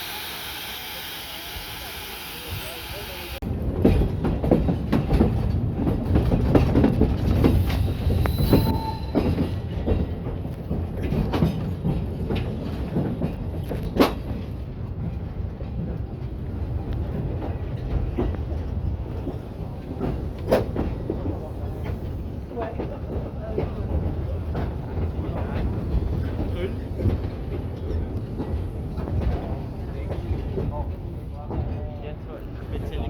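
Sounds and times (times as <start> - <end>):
train wheels rumbling and clattering: 0.0 - 33.0.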